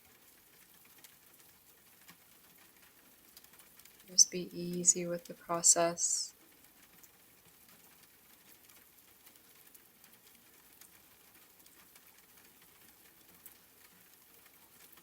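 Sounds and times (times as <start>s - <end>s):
faint rain pattering: 0.0s - 15.0s.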